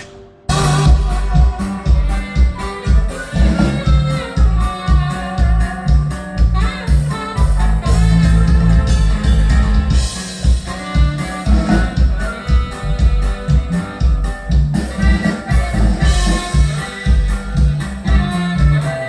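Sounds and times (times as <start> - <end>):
band music with bass and drums: 0.0 - 19.0.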